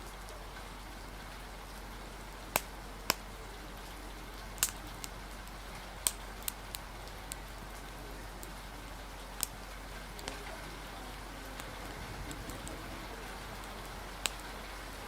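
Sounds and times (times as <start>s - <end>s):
fire crackling: 0.0s - 15.0s
rain hissing: 0.0s - 15.0s.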